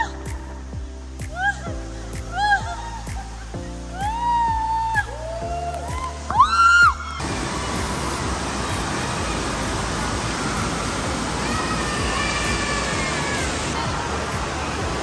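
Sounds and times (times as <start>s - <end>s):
music: 0.0s - 15.0s
rushing water: 0.0s - 15.0s.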